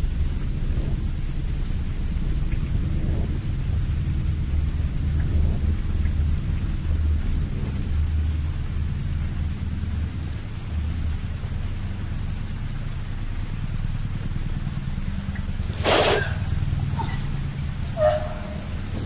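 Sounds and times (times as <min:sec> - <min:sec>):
deep rumbling drone: 0:00.0 - 0:19.0
faint hiss: 0:00.0 - 0:19.0.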